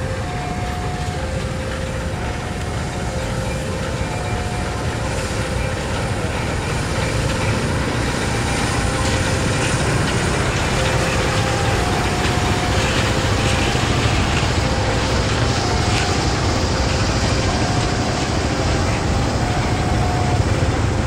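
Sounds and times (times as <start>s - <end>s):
diesel locomotive engine: 0.0s - 21.0s
train wheels rolling on rails: 0.0s - 21.0s.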